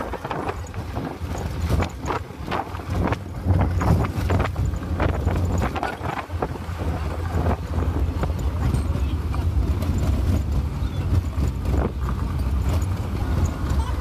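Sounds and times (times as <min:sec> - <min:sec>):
vehicle rumbling on dirt road: 0:00.0 - 0:14.0.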